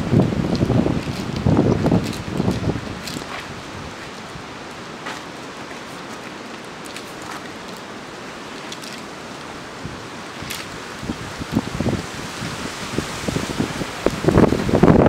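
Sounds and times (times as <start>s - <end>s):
wind rustling dry leaves: 0.0s - 15.0s.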